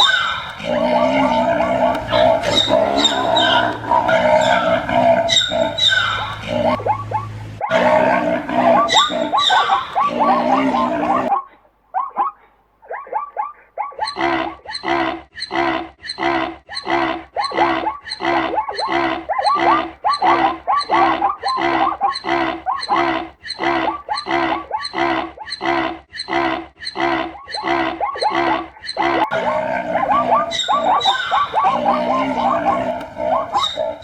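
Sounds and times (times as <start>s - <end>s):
zebra barking calls: 0.0s - 34.0s.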